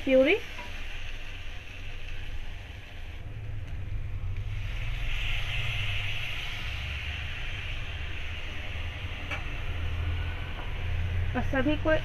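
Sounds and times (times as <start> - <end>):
spices sizzling in oil: 0.0 - 12.0
puree poured into hot pan: 0.6 - 11.3
low rumble: 1.6 - 12.0.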